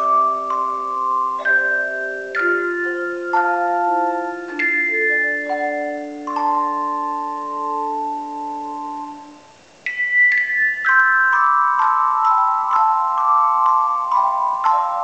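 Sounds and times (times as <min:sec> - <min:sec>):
tone chimes ringing: 0:00.0 - 0:15.0.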